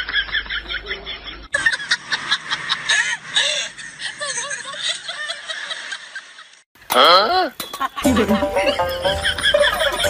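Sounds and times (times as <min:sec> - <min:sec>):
young women giggling: 0:00.0 - 0:06.6, 0:07.8 - 0:10.0.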